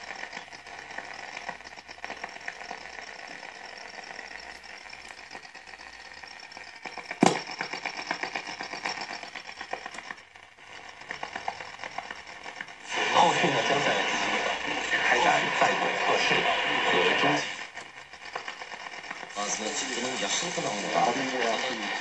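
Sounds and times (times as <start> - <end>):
radio dial click: 0.0 - 22.0
radio static: 0.0 - 22.0.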